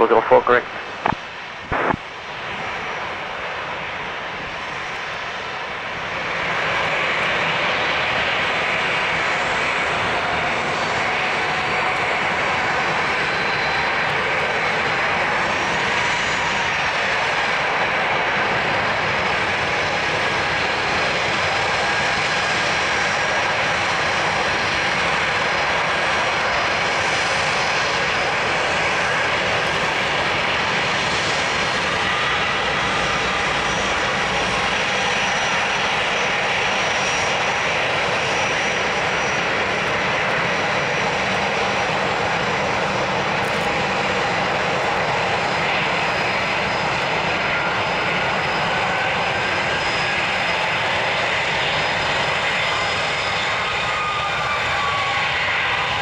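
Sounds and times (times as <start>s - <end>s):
jet engine whine and hiss: 0.0s - 56.0s.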